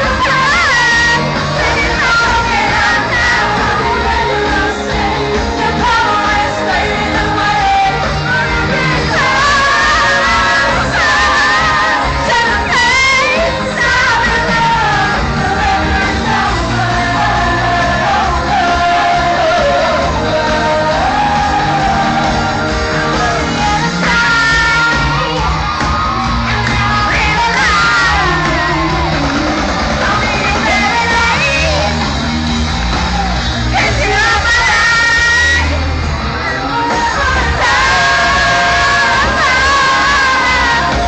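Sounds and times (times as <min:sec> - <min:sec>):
women singing: 0:00.0 - 0:31.9, 0:33.7 - 0:35.8, 0:36.7 - 0:41.0
loud amplified band: 0:00.0 - 0:41.0.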